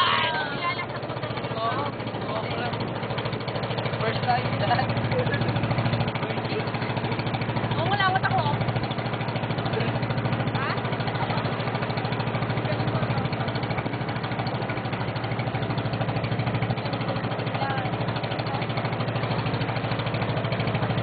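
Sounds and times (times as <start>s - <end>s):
small boat engine chugging: 0.0s - 21.0s.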